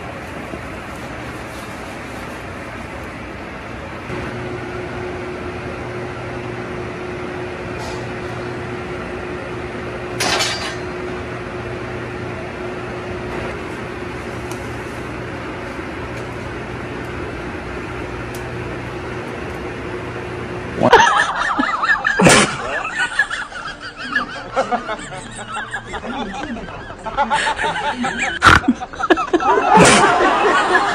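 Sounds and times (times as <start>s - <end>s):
machine humming: 0.0s - 30.9s.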